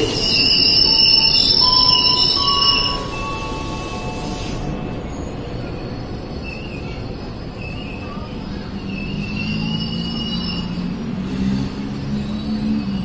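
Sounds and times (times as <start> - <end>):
steady train rumble: 0.0 - 13.0
train wheels squealing on rails: 0.0 - 13.0.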